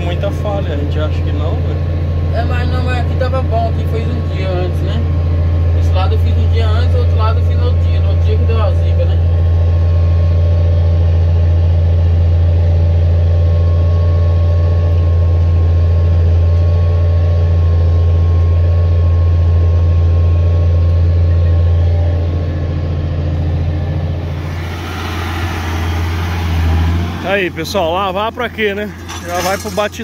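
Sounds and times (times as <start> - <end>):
tractor diesel engine humming: 0.0 - 30.0.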